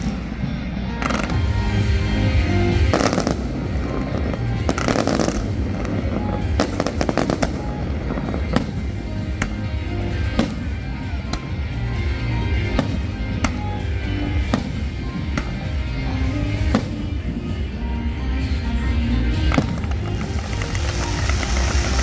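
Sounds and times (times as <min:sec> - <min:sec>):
fireworks bangs: 0:00.0 - 0:17.8, 0:19.4 - 0:22.0
fireworks crackles: 0:00.0 - 0:18.6, 0:19.2 - 0:22.0
music with heavy bass beat: 0:00.0 - 0:22.0.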